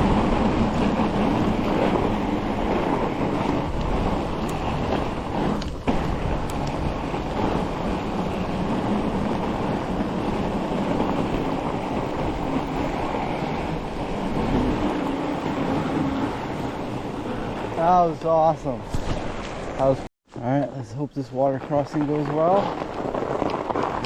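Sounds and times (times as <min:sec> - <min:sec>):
wind on microphone: 0:00.0 - 0:20.0
bike tyres rolling on snow: 0:00.0 - 0:24.0.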